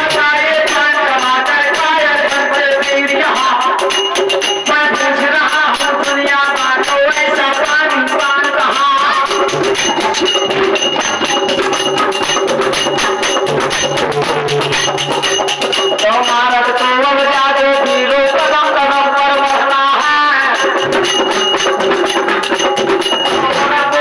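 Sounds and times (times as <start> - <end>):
rhythmic percussion with jingling: 0.0 - 24.0.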